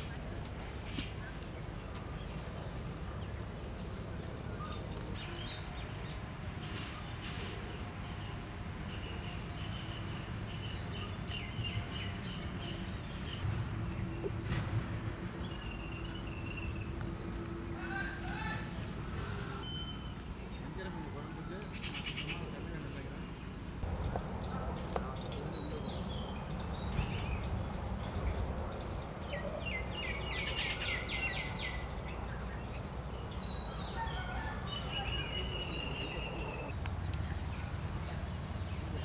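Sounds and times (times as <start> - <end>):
bird chirping: 0.0 - 6.3, 8.1 - 18.6, 19.4 - 39.0
outdoor background noise: 0.0 - 39.0.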